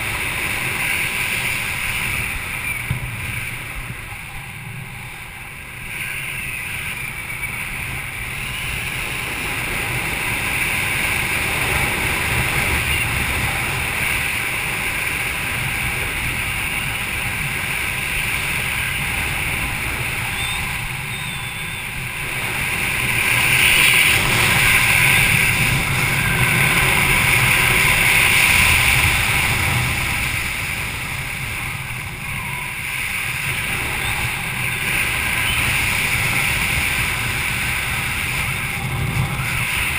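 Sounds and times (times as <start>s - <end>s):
wind rushing over camera: 0.0s - 39.9s.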